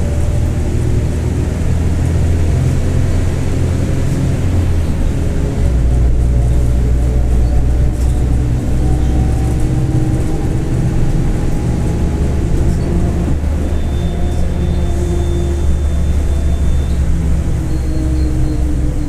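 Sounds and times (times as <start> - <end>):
bus diesel engine drone: 0.0 - 19.0
faint rising whine: 2.1 - 19.0.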